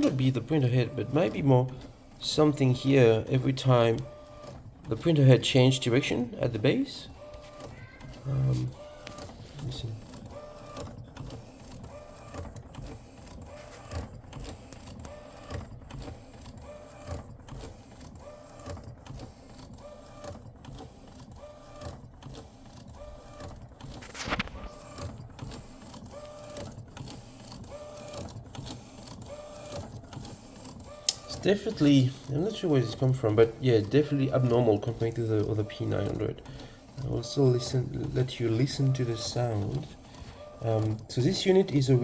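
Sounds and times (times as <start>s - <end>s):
printer carriage motor whir: 0.0s - 42.0s
printer grinding noise: 0.0s - 42.0s.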